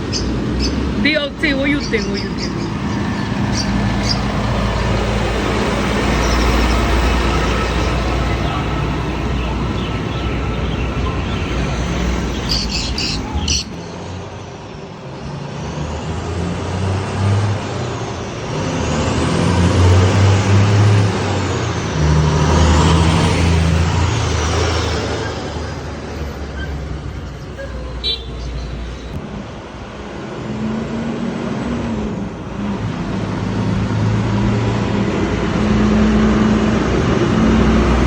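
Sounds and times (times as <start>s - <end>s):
car and truck engines: 0.0s - 38.0s.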